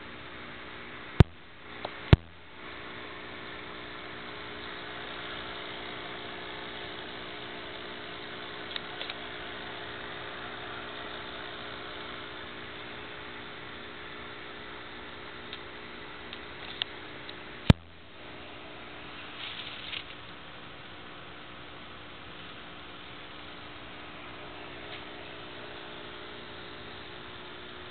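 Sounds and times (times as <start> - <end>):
electrical hum: 0.0 - 27.9.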